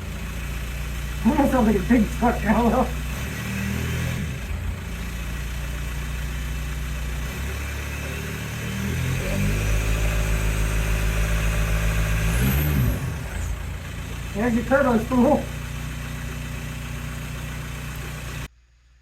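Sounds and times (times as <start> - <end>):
diesel engine idling and revving: 0.0 - 18.5.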